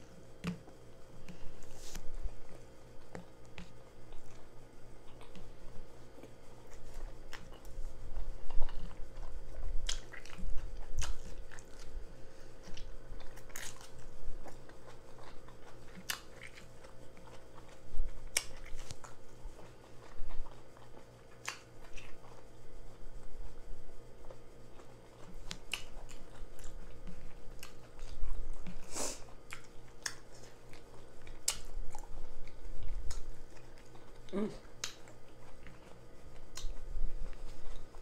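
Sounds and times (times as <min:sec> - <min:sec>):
person chewing: 0:00.1 - 0:23.6, 0:24.2 - 0:38.0.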